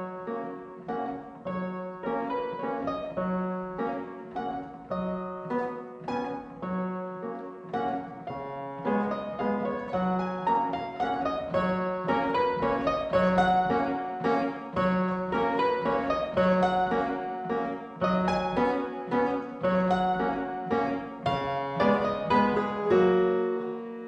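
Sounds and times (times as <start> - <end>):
fortepiano playing a waltz: 0.0 - 24.0.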